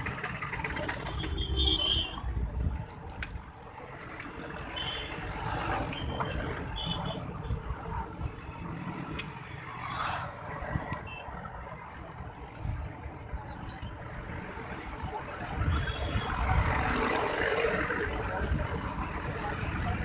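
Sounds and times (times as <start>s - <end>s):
street traffic passing: 0.0s - 20.0s.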